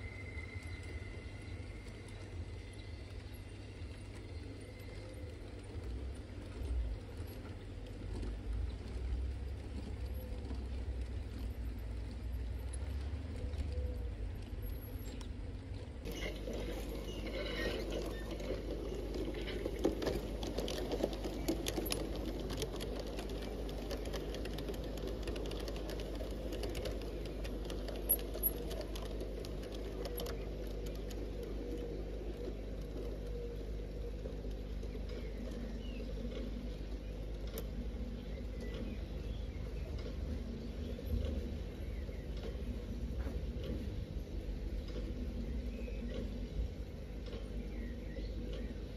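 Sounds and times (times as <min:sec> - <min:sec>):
train wheels clicking over rail joints: 0:00.0 - 0:48.9.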